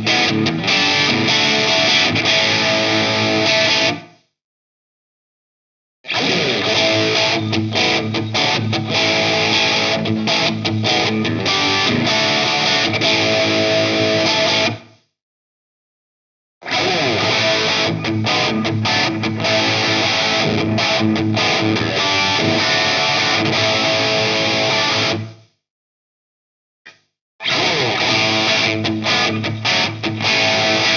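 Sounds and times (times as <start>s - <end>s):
electric guitar through amp: 0.0s - 4.0s, 6.1s - 14.8s, 16.7s - 25.4s, 27.4s - 30.9s.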